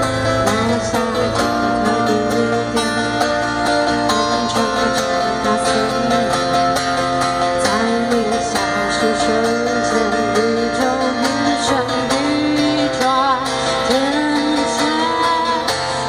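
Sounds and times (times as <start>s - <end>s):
acoustic guitar through speakers: 0.0s - 16.0s.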